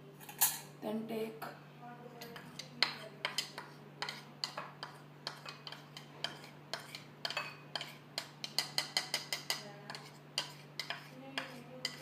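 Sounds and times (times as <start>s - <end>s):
cutlery clinking against bowl: 0.2s - 0.7s, 2.2s - 12.0s.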